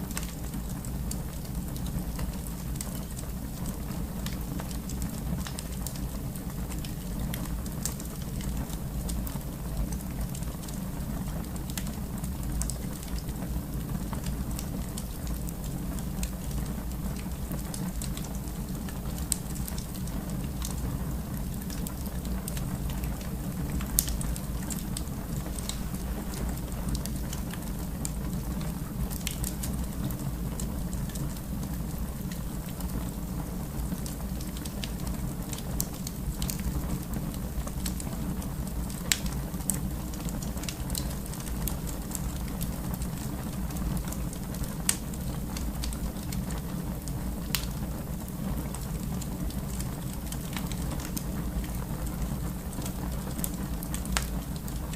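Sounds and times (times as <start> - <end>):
fire crackles and pops: 0.0 - 54.9
wood fire rumbling: 0.0 - 54.9.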